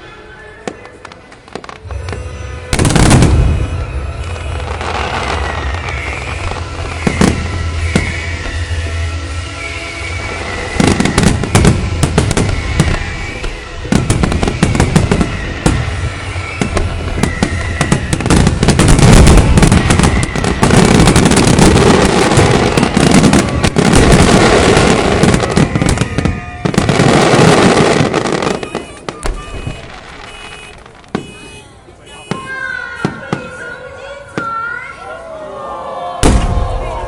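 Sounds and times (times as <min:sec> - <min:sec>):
fireworks bursting and crackling: 0:00.0 - 0:34.9, 0:36.2 - 0:37.0.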